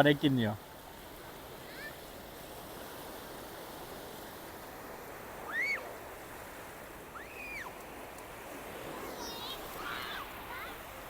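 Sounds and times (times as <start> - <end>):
sea surf: 0.0 - 11.0.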